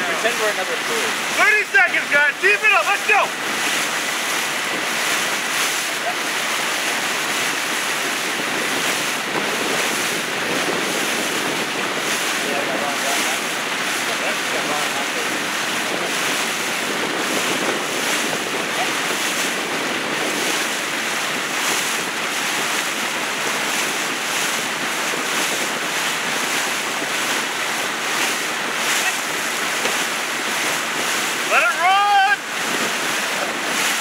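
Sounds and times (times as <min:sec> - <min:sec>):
water washing around canoe: 0:00.0 - 0:34.0
wind buffeting microphone: 0:00.0 - 0:34.0.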